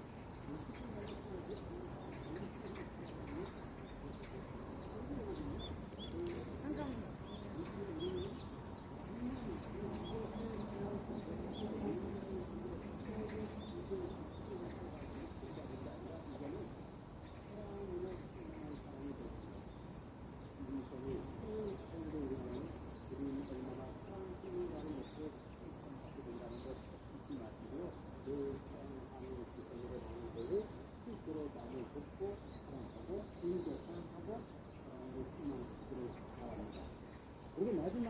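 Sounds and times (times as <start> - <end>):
faint bird chirps: 0.0 - 38.0.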